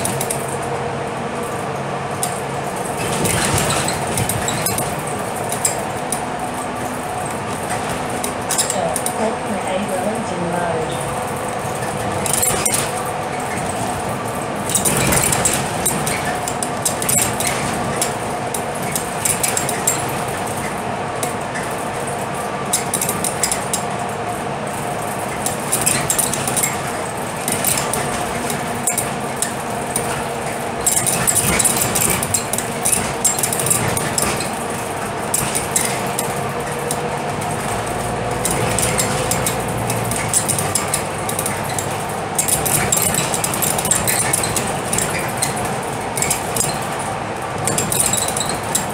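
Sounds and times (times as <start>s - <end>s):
bus diesel engine drone: 0.0s - 48.9s
constant whine: 0.0s - 48.9s
loose fittings rattling: 1.4s - 48.9s.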